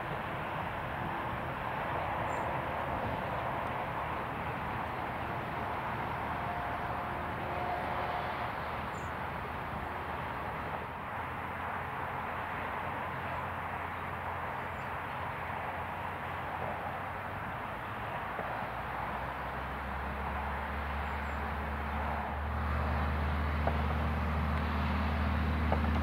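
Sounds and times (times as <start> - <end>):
distant aircraft engines humming: 0.0 - 26.0.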